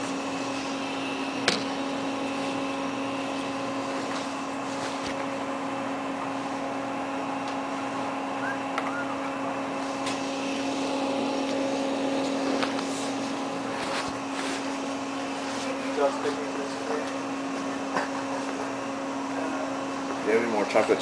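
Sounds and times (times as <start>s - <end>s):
electrical hum of equipment: 0.0s - 21.0s.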